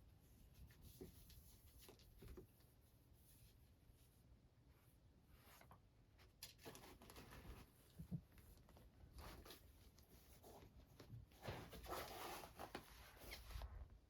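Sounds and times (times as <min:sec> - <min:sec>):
faint scratching and rustling: 0:00.1 - 0:14.0.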